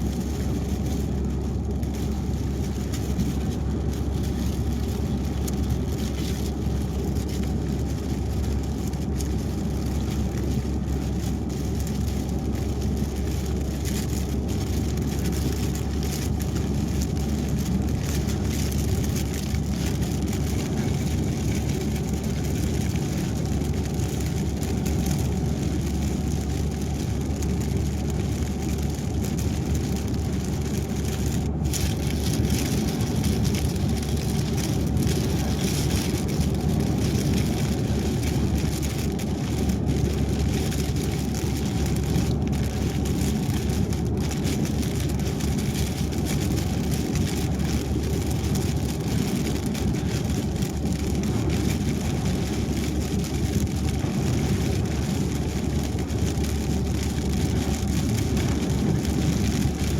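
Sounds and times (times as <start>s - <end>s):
rain hiss and spray: 0.0s - 59.9s
tyres and engine rumble: 0.0s - 59.9s.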